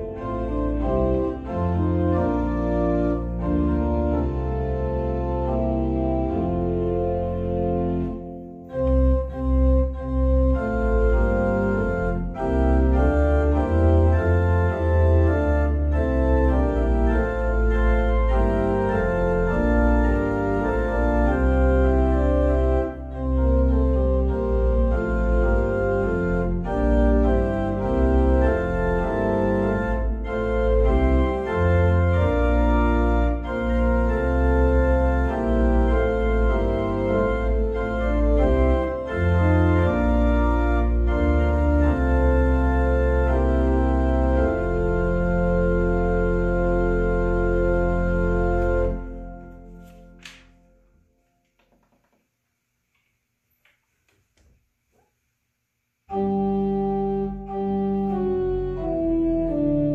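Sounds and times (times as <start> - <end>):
organ playing a hymn: 0.0 - 51.0, 56.1 - 59.9.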